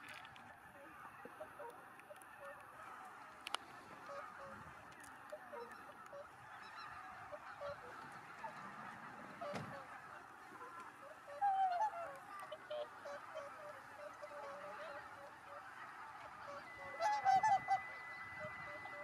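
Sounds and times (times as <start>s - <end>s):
swans and geese honking: 0.0s - 19.0s.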